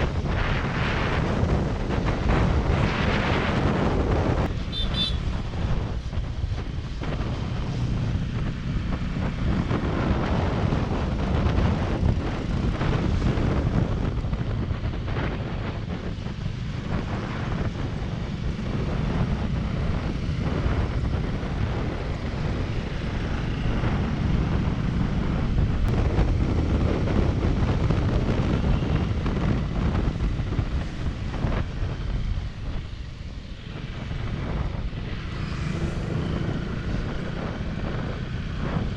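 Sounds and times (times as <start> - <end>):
motorcycle running: 0.0 - 38.9
wind buffeting microphone: 0.0 - 38.9.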